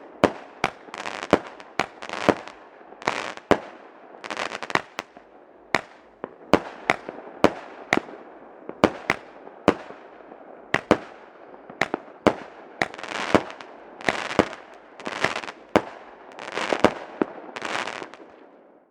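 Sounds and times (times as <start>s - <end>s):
fireworks bangs: 0.0s - 18.5s
noisy firework bursts: 0.1s - 5.2s, 5.8s - 18.5s.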